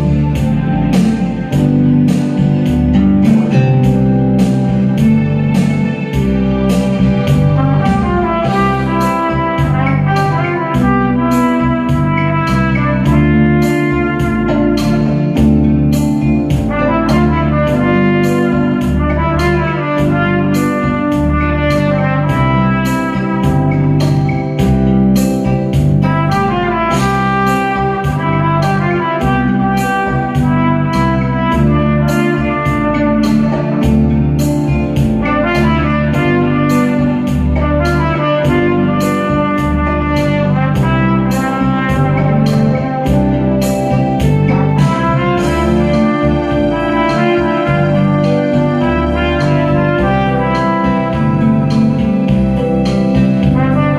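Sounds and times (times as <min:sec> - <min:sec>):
backing band playing: 0:00.0 - 0:53.9
trumpet melody: 0:00.0 - 0:53.9.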